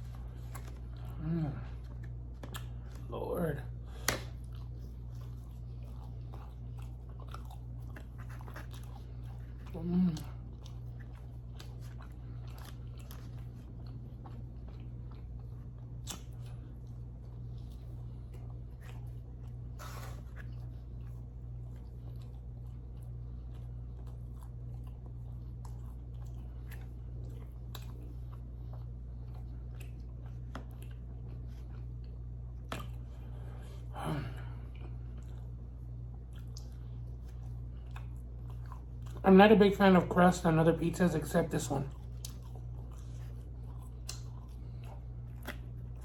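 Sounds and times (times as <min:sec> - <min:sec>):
person chewing pizza: 0:00.0 - 0:46.0
steady low hum: 0:00.0 - 0:46.0.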